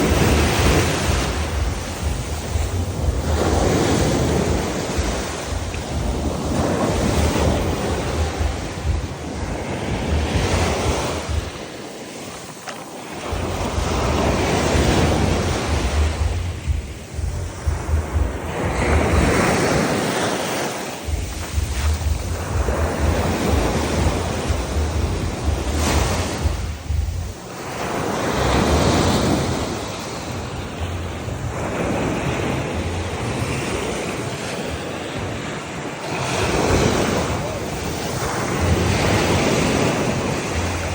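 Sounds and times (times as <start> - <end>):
sea waves breaking: 0.0 - 40.9
wind buffeting microphone: 0.0 - 40.9.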